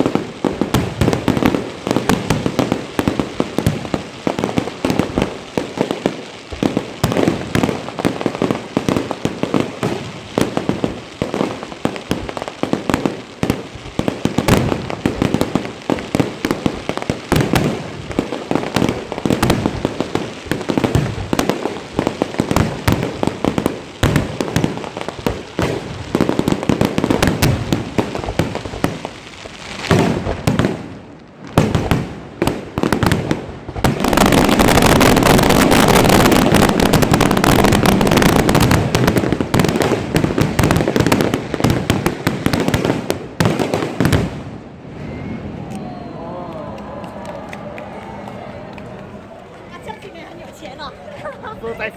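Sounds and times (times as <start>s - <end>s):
fireworks bangs and cracks: 0.0s - 51.9s.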